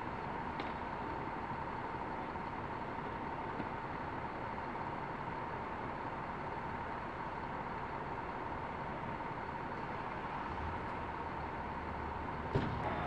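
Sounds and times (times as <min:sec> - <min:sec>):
urban traffic noise: 0:00.0 - 0:13.0.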